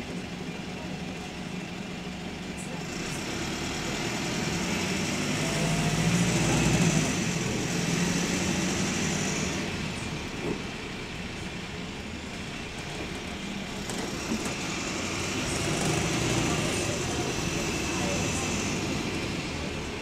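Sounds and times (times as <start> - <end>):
bus engine running: 0.0 - 20.0
engine rods clickety-clack: 3.0 - 20.0.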